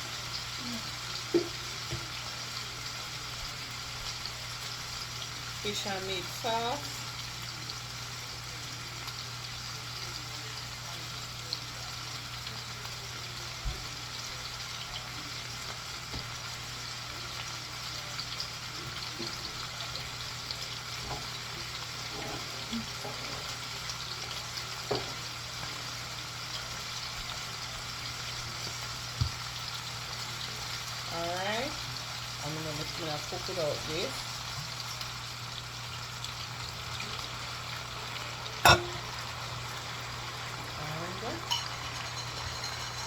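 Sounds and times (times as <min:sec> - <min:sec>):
food sizzling in a pan: 0:00.0 - 0:43.0.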